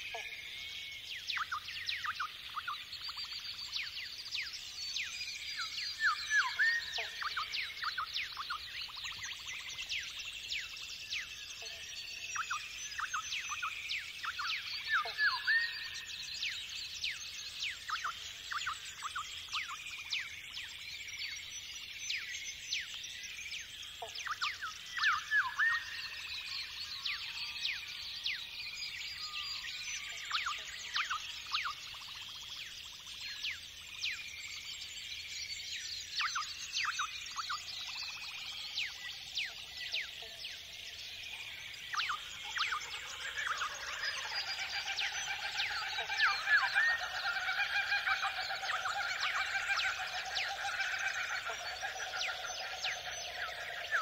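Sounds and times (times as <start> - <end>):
chorus of birds chirping: 0.0 - 54.0.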